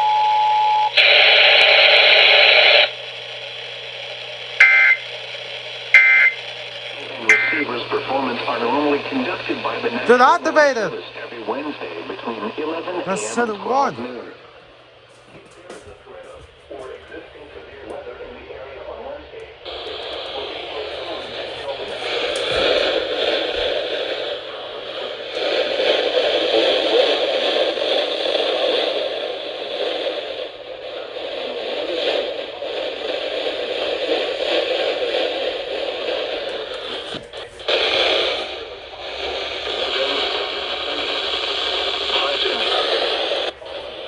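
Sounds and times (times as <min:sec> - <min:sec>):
radio static hiss and crackle: 0:00.7 - 0:44.0.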